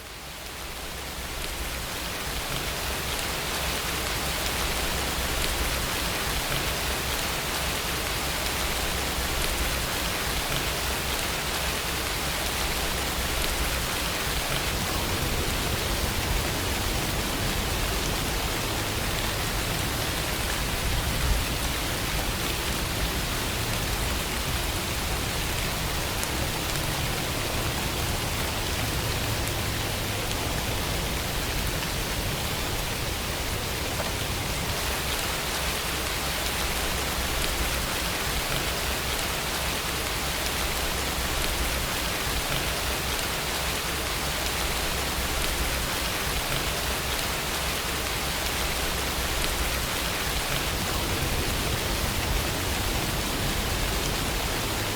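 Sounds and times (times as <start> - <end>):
steady rain hissing: 0.0 - 54.9.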